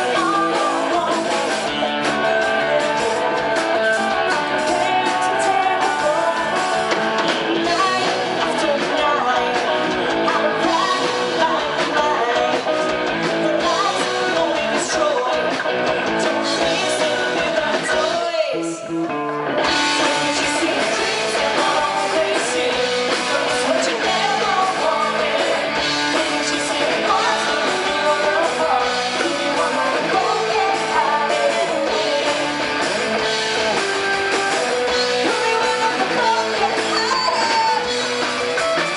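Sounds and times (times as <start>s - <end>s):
guitars: 0.0s - 38.9s
person singing: 0.0s - 38.9s
rock band playing live: 0.0s - 38.9s.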